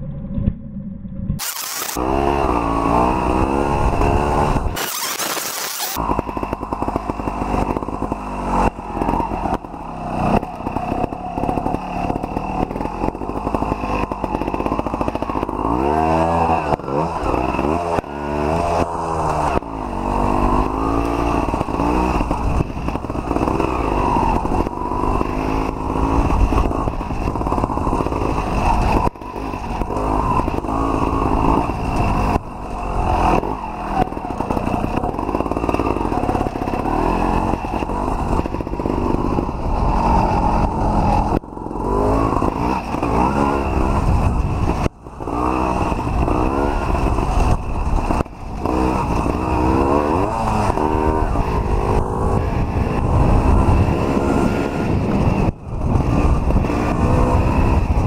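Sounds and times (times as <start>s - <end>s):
motorcycle engine revving: 1.4s - 58.0s.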